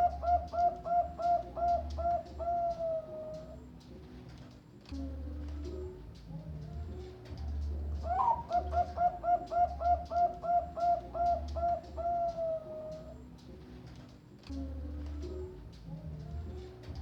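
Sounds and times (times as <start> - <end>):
dove cooing: 0.0 - 4.2, 5.0 - 17.0.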